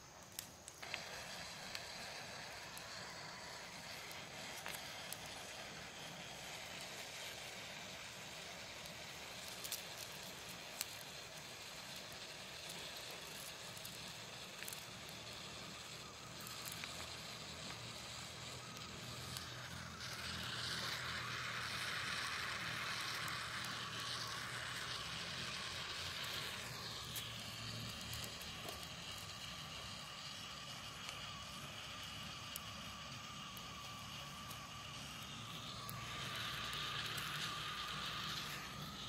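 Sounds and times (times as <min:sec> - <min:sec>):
embers crackling: 0:00.0 - 0:39.0
snails hissing on embers: 0:00.0 - 0:39.0.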